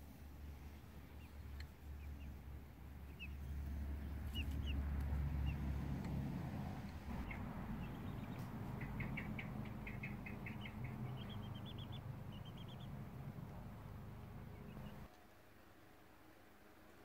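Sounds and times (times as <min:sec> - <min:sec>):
chicks peeping: 0:00.6 - 0:06.2, 0:06.8 - 0:15.1.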